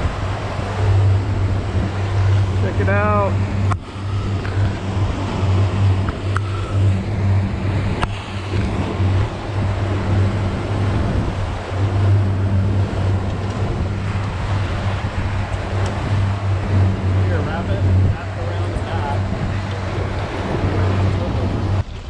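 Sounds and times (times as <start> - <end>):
boat engine humming: 0.0 - 22.0
water rushing against hull: 0.0 - 22.0
wind on microphone: 0.0 - 22.0.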